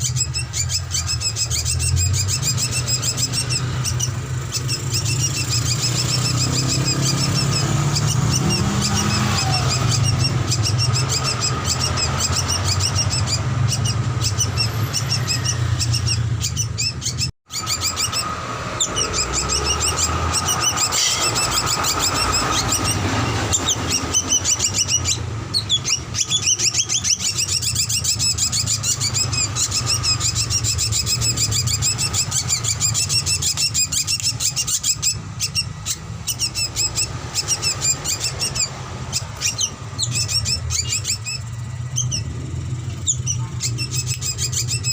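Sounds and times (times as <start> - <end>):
bird chirping and whistling: 0.0 - 44.9.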